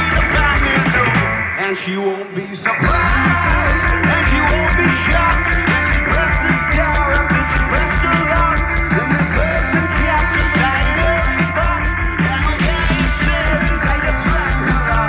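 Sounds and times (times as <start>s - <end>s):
man singing: 0.0s - 15.0s
rock band playing: 0.0s - 15.0s.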